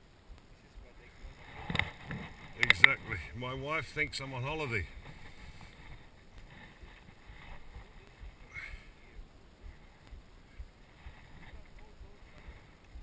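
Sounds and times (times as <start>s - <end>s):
wind rumble: 0.0s - 13.0s.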